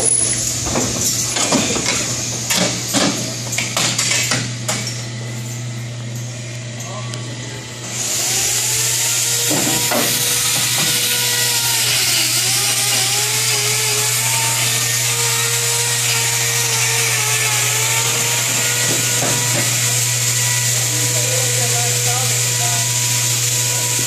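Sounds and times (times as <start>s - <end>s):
electric grinder grinding hoof: 0.0s - 24.0s.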